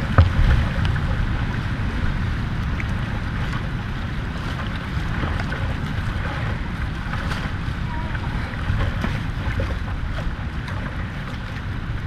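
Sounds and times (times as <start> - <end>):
choppy sea washing around kayak: 0.0 - 12.0
wind buffeting microphone: 0.0 - 12.0.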